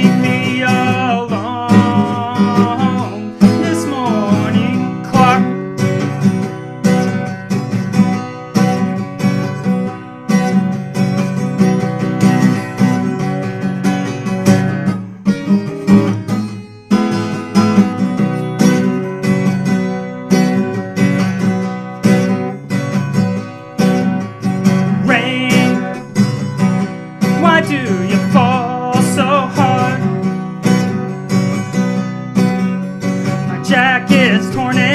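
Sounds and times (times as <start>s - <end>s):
acoustic guitar strumming chords: 0.0s - 34.9s.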